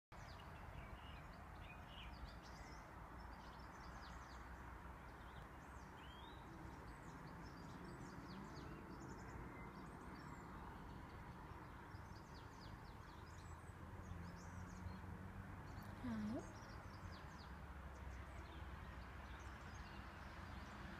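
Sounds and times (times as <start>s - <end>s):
small birds chirping: 0.2s - 20.8s
faint low background noise: 0.2s - 20.9s.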